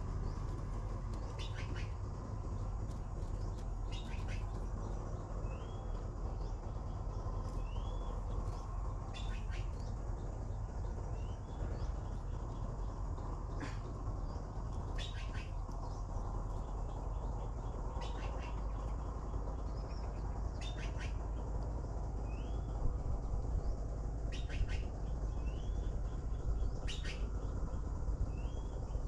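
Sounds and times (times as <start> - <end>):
low background rumble: 0.0 - 29.0
nestling birds chirping: 0.0 - 29.0.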